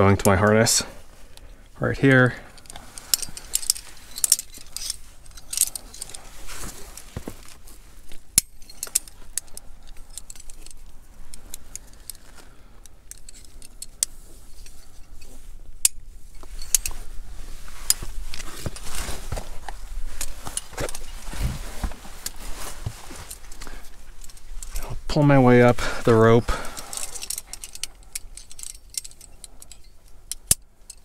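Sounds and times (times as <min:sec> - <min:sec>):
carabiners clinking: 0:01.9 - 0:31.0.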